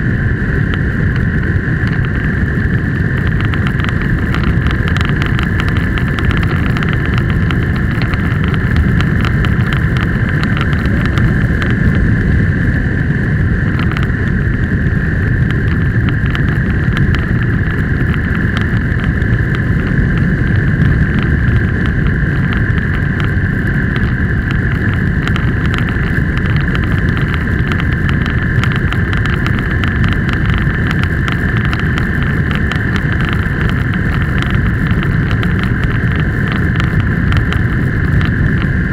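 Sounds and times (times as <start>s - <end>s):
high-pitched whine: 0.0s - 38.9s
vehicle engine and road rumble: 0.0s - 38.9s.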